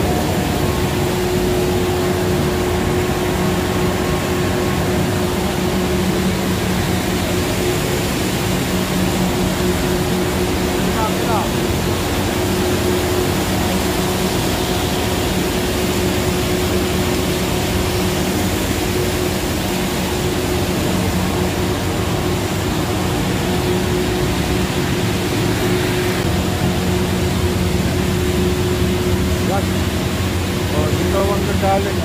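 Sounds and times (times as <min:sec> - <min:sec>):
recycling machinery humming: 0:00.0 - 0:32.0.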